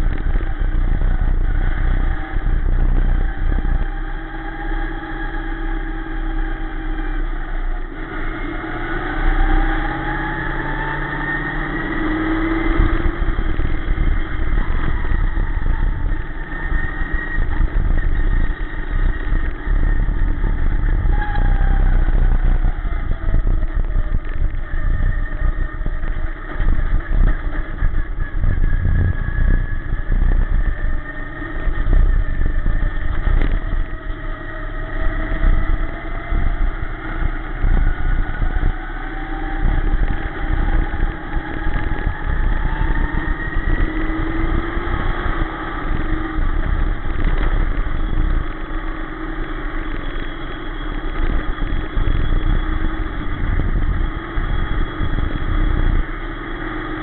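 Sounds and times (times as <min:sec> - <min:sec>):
low car rumble: 0:00.0 - 0:57.0
race car engine revving: 0:00.0 - 0:57.0.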